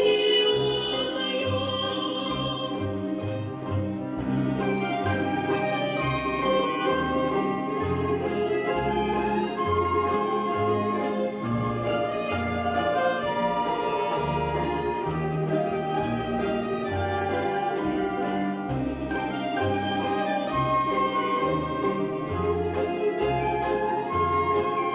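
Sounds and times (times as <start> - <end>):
folk instrument orchestra: 0.0 - 24.9
walking bass: 1.4 - 24.9.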